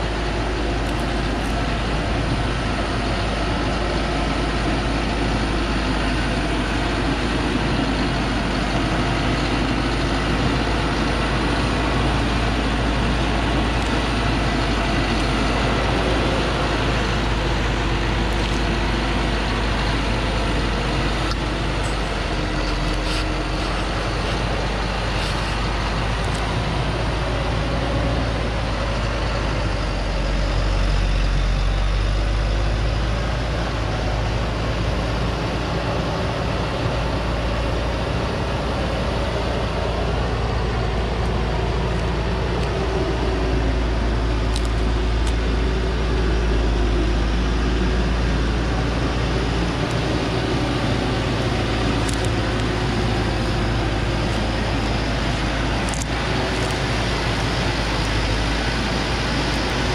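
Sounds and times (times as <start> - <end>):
truck engine labouring: 0.0 - 59.9.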